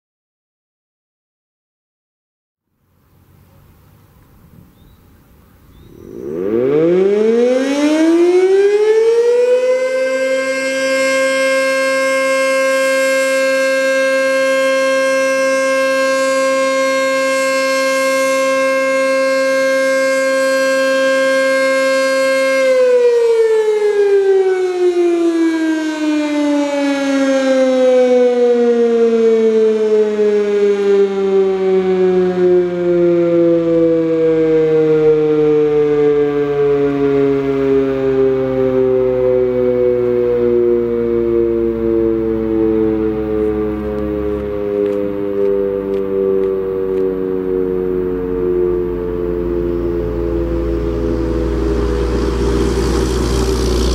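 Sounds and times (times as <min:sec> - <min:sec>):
warning siren: 0:05.6 - 0:53.9.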